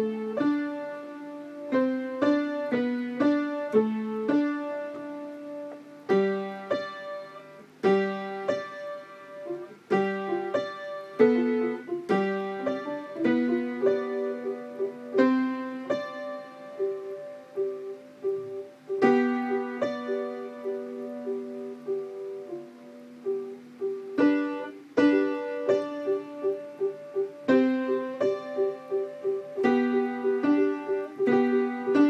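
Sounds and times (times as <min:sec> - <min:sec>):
upright piano notes and chords: 0:00.0 - 0:32.0.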